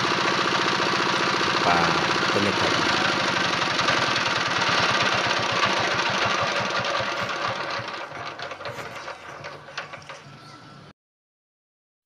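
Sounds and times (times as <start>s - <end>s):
diesel engine knocking: 0.0s - 10.2s.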